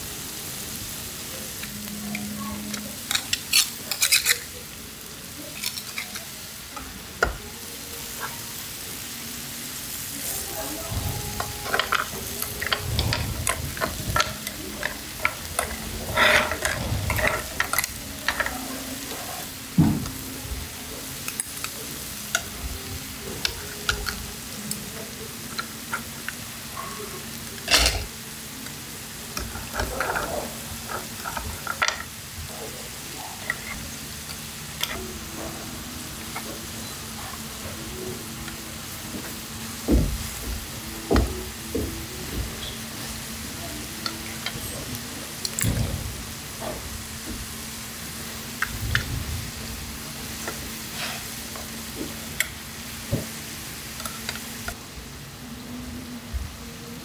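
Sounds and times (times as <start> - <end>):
food sizzling on a griddle: 0.0 - 57.0.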